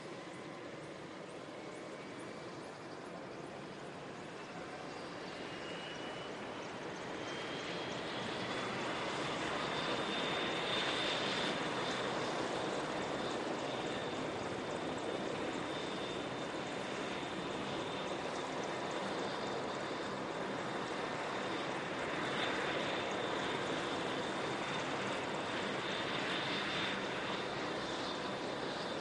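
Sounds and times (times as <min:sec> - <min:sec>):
helicopter rotor and engine noise: 0:00.0 - 0:29.0
high turbine whine: 0:00.0 - 0:29.0.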